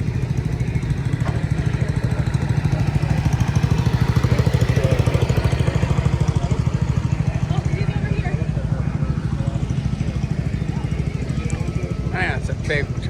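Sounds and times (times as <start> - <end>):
engine chugging: 0.0 - 13.0.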